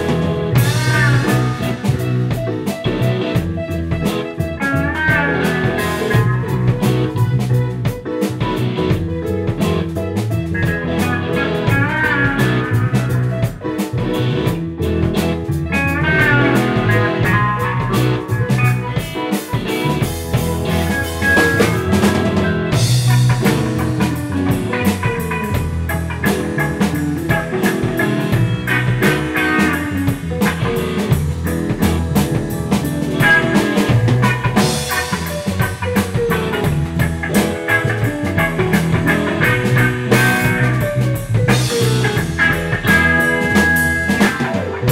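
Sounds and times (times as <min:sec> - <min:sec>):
bass guitar: 0:00.0 - 0:44.9
drum kit with cymbals: 0:00.0 - 0:44.9
electric guitar lead lines: 0:00.0 - 0:44.9.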